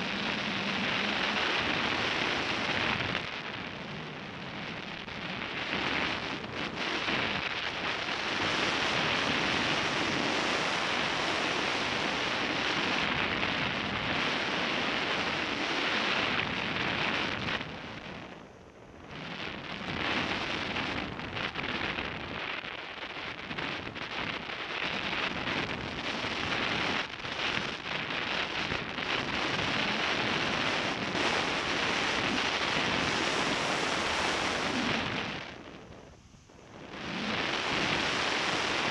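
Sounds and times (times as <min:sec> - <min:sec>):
rushing wind on microphone: 0:00.0 - 0:38.9.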